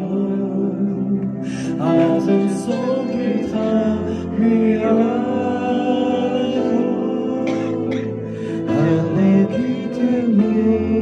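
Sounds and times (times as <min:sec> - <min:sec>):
backing music: 0:00.0 - 0:11.0
man singing into a microphone: 0:00.0 - 0:11.0.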